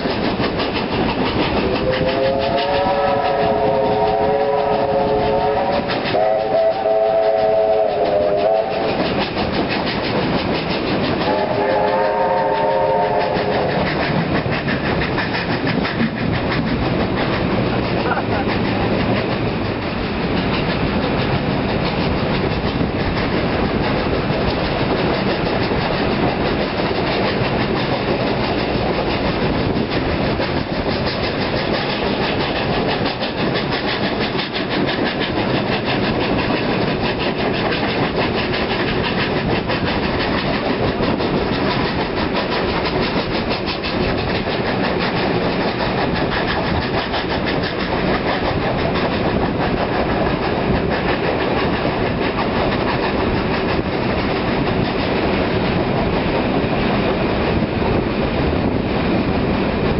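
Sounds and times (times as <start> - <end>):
steam locomotive exhausts chuffing: 0.0 - 59.9
train wheels clattering on rails: 0.0 - 59.9.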